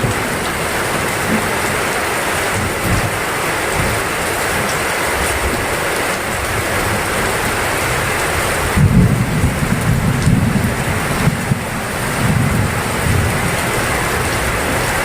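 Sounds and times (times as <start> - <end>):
heavy rain pouring: 0.0 - 15.0
thunder rumbling: 0.0 - 15.0.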